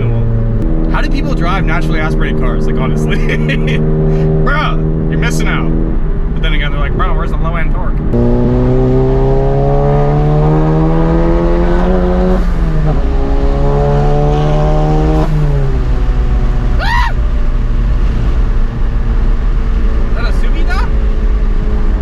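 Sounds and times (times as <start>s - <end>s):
car engine accelerating through gears: 0.0s - 7.4s, 8.0s - 22.0s.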